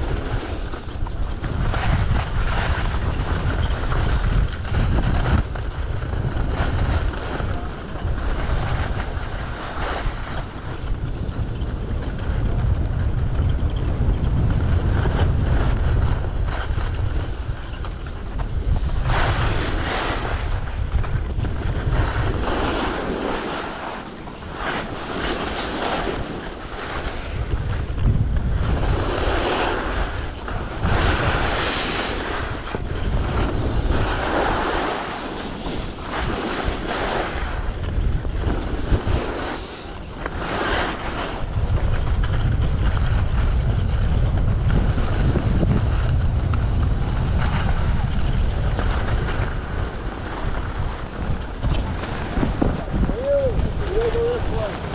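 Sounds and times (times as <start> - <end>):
skis scraping on snow: 0.0 - 54.9
wind buffeting microphone: 0.0 - 54.9.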